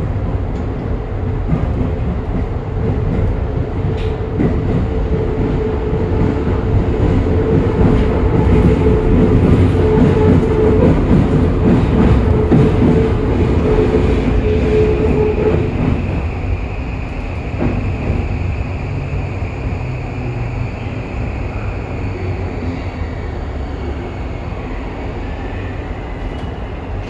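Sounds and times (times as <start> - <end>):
subway car running rumble: 0.0 - 27.0.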